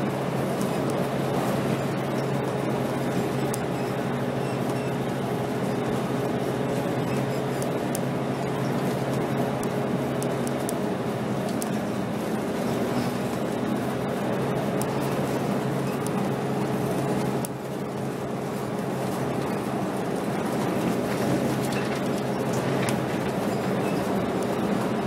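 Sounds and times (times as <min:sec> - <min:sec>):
bus diesel engine droning: 0:00.0 - 0:25.0.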